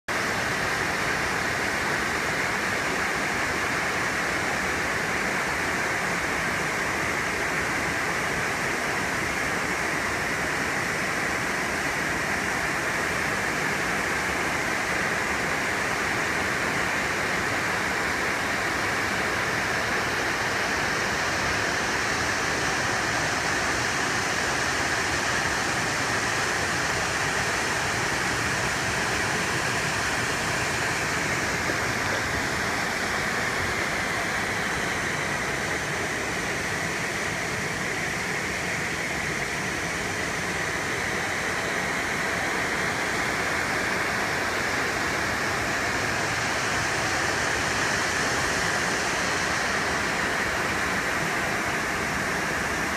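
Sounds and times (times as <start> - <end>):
waterfall rushing onto rocks: 0.1 - 52.9.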